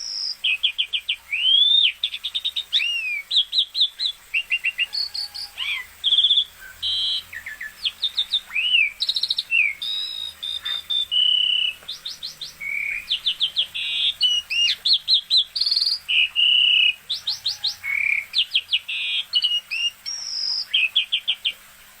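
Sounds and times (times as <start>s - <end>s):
starling singing: 0.0s - 21.6s.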